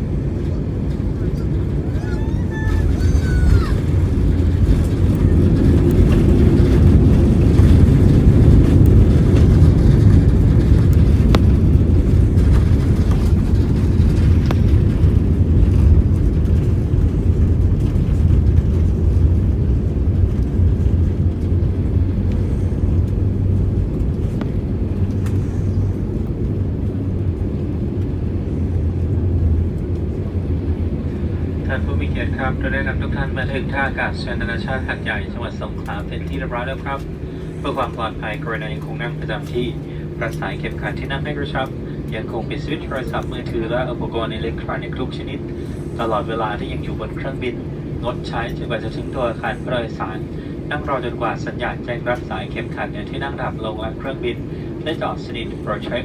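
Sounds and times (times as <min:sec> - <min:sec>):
low rumble of engines and wheels: 0:00.0 - 0:56.0.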